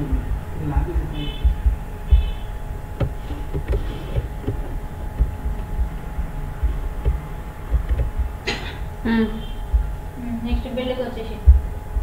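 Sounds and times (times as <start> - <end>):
electrical hum: 0.0 - 12.0
low thumping: 0.1 - 12.0.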